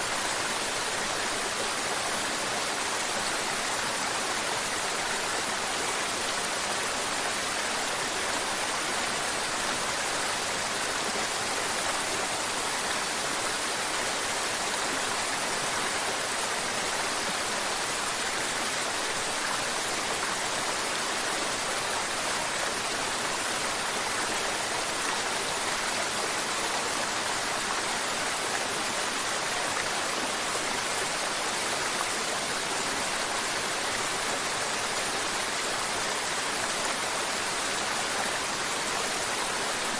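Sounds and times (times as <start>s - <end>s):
river babbling over rocks: 0.0s - 39.9s.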